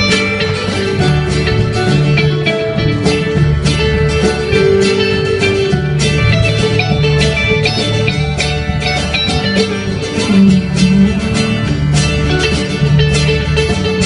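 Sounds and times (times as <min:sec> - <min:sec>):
drums keeping a steady beat: 0:00.0 - 0:14.0
electric bass: 0:00.0 - 0:14.0
electric guitar: 0:00.0 - 0:14.0
strummed acoustic guitar: 0:00.0 - 0:14.0.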